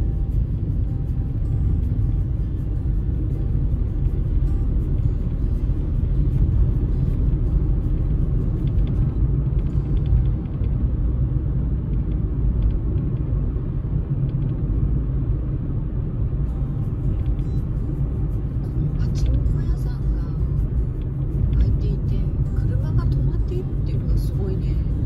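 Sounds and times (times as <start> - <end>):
car road rumble on snow: 0.0 - 25.0.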